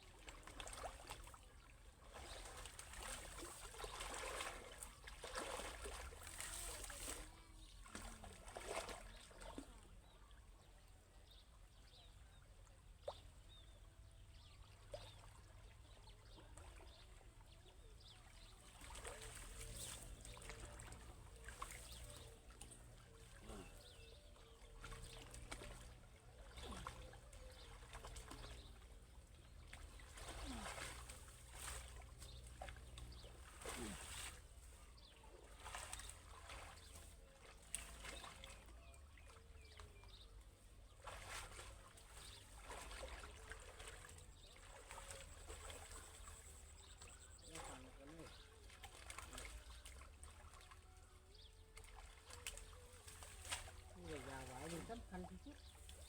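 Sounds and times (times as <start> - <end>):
pond water splashing and trickling: 0.0 - 56.0
low steady hum: 9.3 - 56.0.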